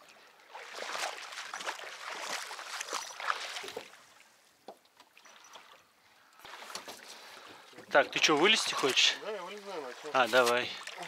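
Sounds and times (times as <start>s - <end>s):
water splashing around boat: 0.0s - 11.0s.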